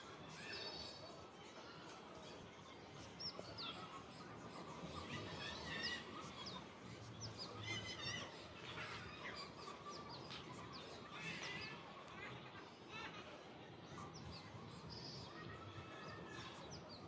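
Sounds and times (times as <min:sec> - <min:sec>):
background noise: 0:00.0 - 0:17.0
birds chirping: 0:00.0 - 0:17.0.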